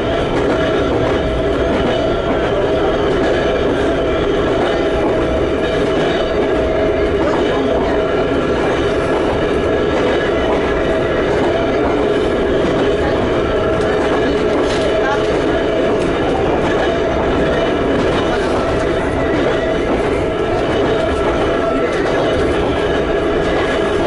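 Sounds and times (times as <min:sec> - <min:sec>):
train running gear rumble: 0:00.0 - 0:24.0
train traction motor whine: 0:00.0 - 0:24.0.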